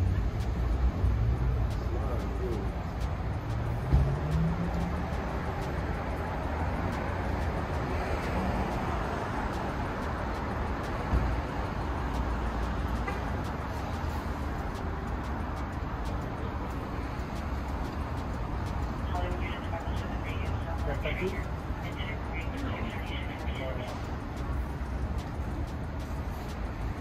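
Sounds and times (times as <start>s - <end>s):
passing cars: 0.0s - 27.0s.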